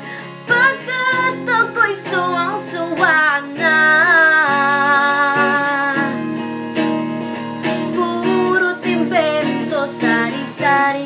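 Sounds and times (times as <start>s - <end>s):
woman singing: 0.0s - 6.6s, 7.6s - 11.0s
strummed guitar: 0.0s - 11.0s.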